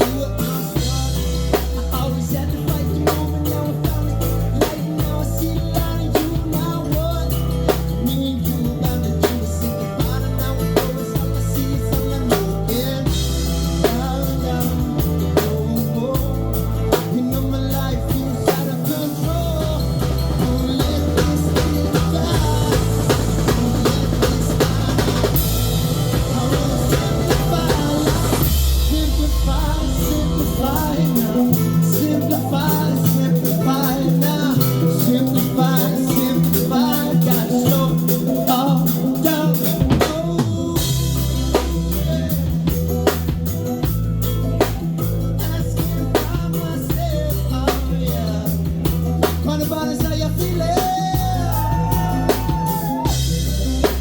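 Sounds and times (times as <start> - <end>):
drum kit beat: 0.0 - 54.0
live band music: 0.0 - 54.0.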